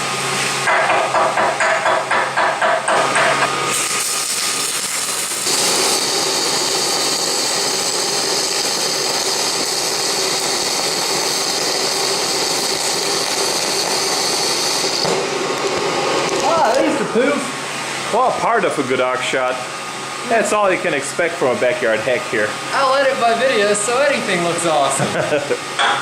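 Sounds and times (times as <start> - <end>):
welder crackling and hissing: 0.0 - 25.8.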